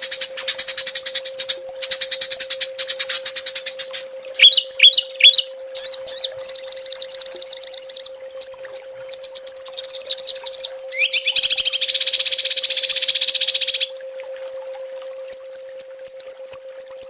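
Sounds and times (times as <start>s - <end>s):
songbirds singing rapid trills: 0.0s - 13.9s
steady low hum: 0.0s - 17.0s.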